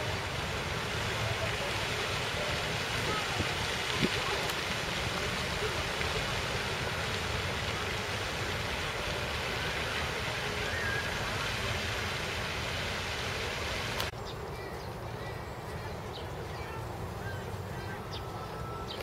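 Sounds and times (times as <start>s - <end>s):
fountain jet splashing water: 0.0s - 19.0s.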